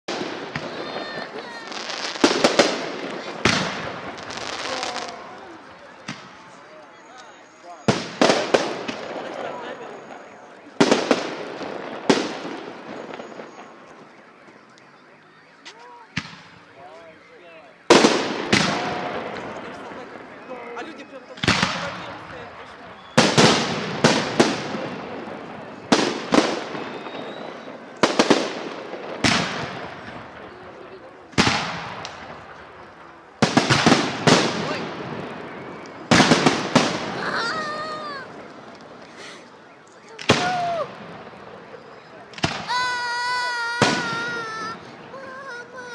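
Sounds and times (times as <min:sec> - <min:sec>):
fireworks bangs with crackle: 0:00.1 - 0:45.9.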